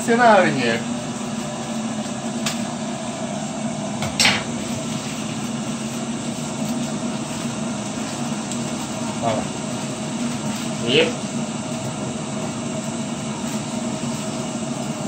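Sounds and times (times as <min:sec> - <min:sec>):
electric kettle heating water: 0:00.0 - 0:15.0.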